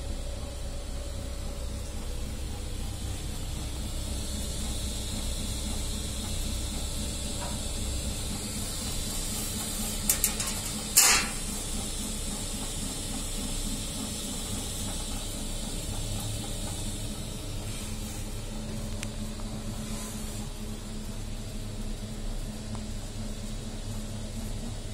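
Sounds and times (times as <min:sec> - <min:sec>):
printer fans and motors humming: 0:00.0 - 0:24.9.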